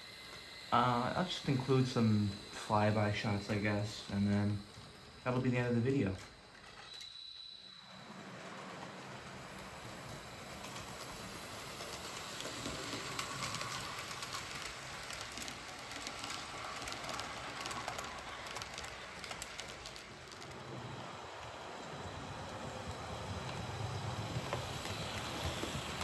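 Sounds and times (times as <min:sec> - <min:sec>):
model train wheels rolling: 0:00.0 - 0:26.0.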